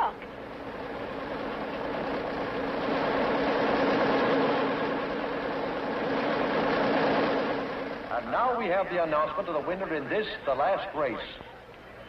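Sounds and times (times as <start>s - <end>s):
racing car engines: 0.0s - 10.5s.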